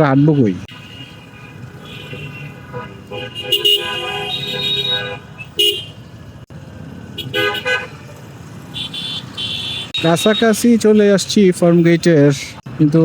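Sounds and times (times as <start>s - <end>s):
vehicle horns honking: 0.0s - 6.1s, 7.1s - 11.9s
low rumble of engines: 0.6s - 13.0s.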